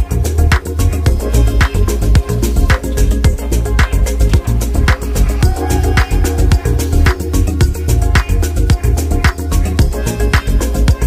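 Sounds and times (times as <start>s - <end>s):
upbeat music with drums and bass: 0.0s - 11.0s.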